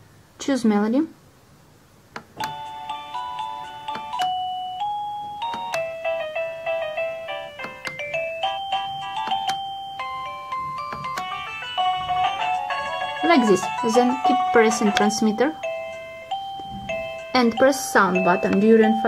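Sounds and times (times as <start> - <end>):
doorbell chime melody: 2.4 - 19.0.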